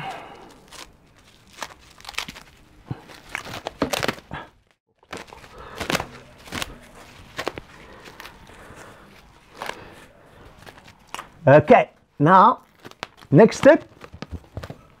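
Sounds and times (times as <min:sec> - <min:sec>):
crinkling plastic film: 0:00.5 - 0:11.4, 0:12.6 - 0:14.7.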